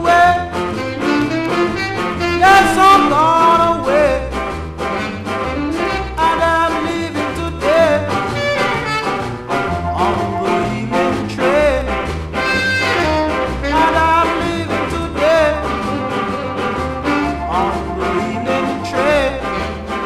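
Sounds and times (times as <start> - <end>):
instrumental ska music with horns: 0.0 - 20.0.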